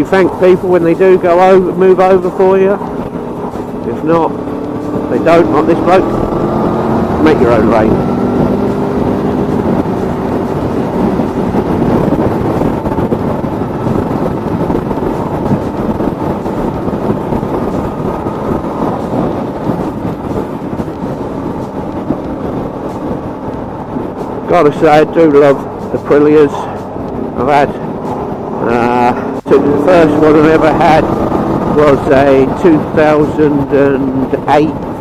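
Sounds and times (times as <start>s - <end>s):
motorcycle engine running: 0.0s - 35.0s
wind rushing on microphone: 0.0s - 35.0s.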